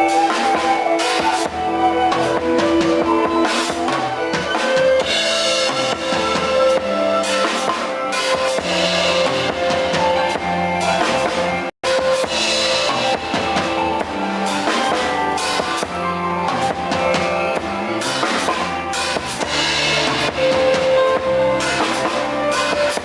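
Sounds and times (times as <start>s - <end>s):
band playing steady beat: 0.0s - 23.0s.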